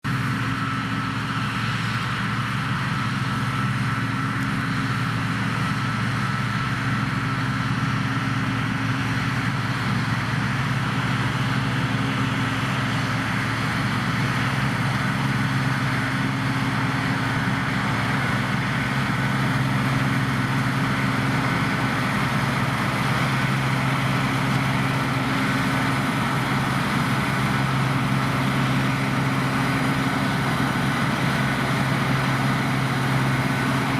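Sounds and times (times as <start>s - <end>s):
combine harvester engine hum: 0.0s - 33.9s.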